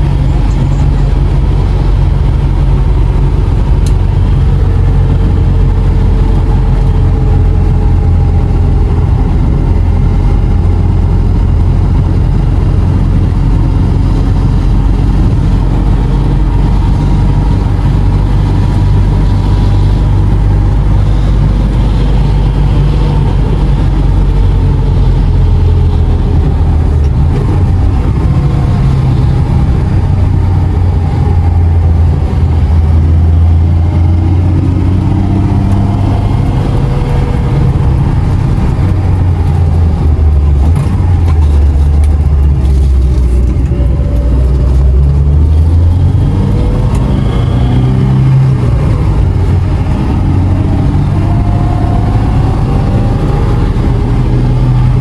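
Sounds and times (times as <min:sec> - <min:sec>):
car engine running: 0:00.0 - 0:55.0
road and tyre noise: 0:00.0 - 0:55.0.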